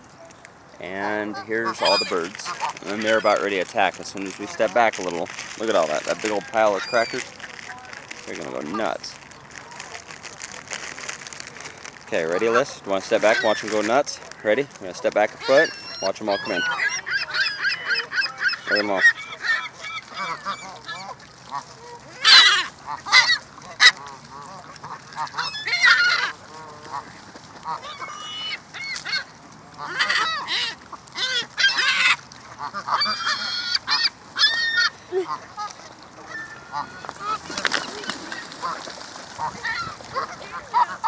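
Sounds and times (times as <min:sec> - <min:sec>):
gulls calling: 0:00.8 - 0:09.5, 0:12.1 - 0:41.0
ducks calling: 0:00.8 - 0:09.9, 0:12.1 - 0:41.0.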